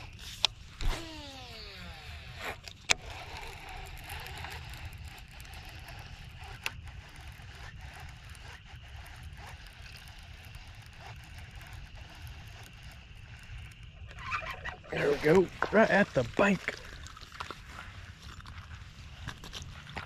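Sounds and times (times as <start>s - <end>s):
reel cranking whir: 0.0s - 20.0s.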